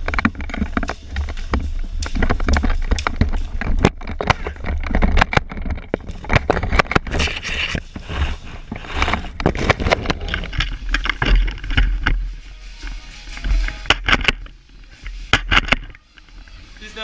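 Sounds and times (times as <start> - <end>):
gear scraping and knocking: 0.0 - 17.0
running footsteps: 0.0 - 17.0.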